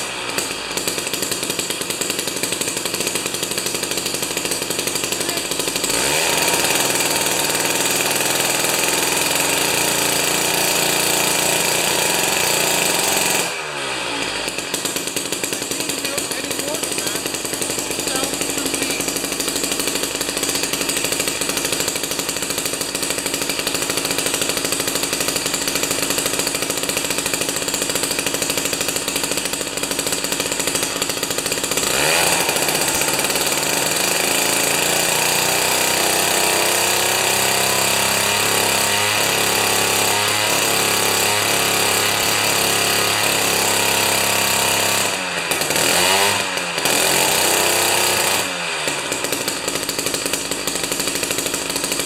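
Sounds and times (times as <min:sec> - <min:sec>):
two-stroke engine revving: 0:00.0 - 0:52.0.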